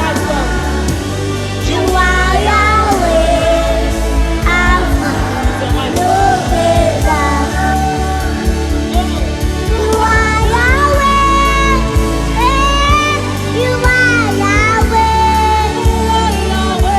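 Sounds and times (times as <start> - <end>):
gospel band playing: 0.0 - 16.9
person singing: 0.0 - 16.9.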